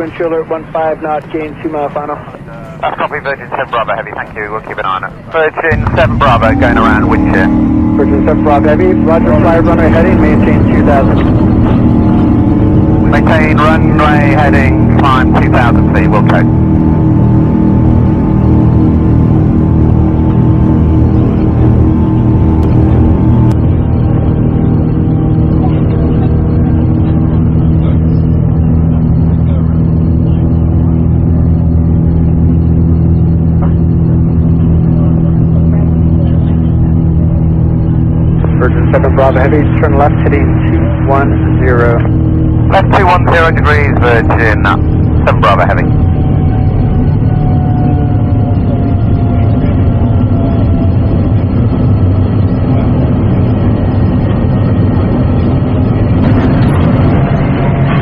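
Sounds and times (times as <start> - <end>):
aircraft cabin engine drone: 0.0 - 58.0
faint whining tones: 0.0 - 58.0.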